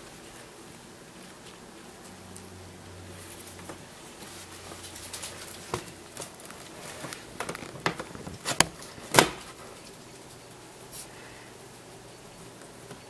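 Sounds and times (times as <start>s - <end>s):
hamster crunching seeds: 0.1s - 11.3s.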